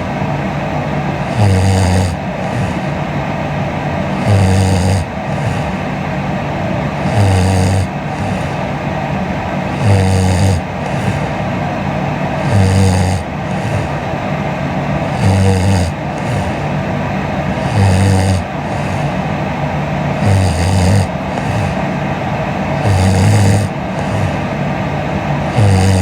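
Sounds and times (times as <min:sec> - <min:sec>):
woman snoring: 0:00.0 - 0:26.0.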